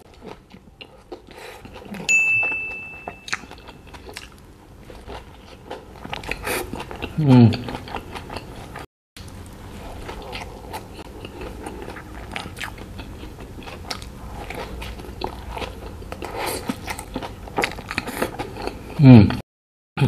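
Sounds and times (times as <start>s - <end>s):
chewing burger: 0.0s - 2.1s, 3.3s - 19.3s.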